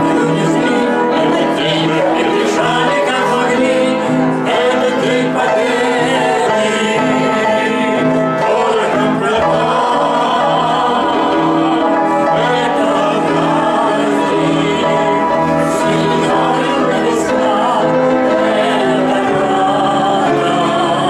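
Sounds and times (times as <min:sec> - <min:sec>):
elderly man singing: 0:00.0 - 0:21.0.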